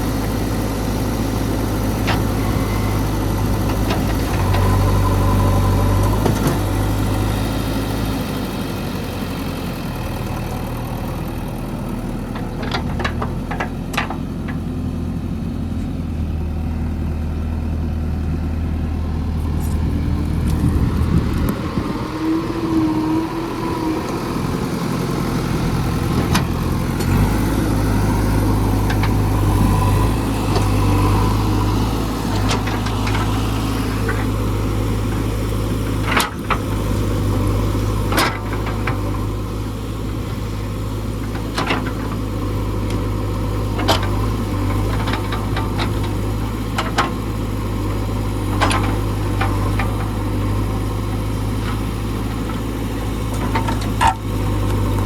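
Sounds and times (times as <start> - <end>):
diesel engine working: 0.0 - 55.0.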